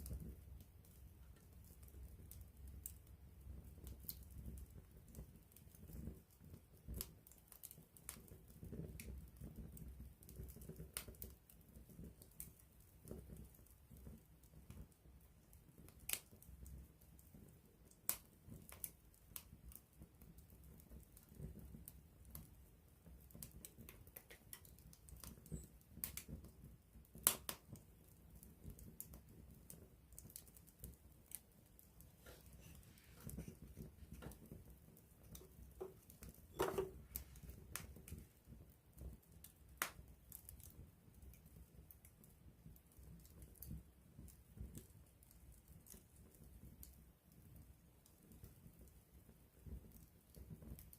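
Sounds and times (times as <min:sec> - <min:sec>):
campfire crackling and popping: 0:00.0 - 0:50.9
low rumble of flame: 0:00.0 - 0:50.9.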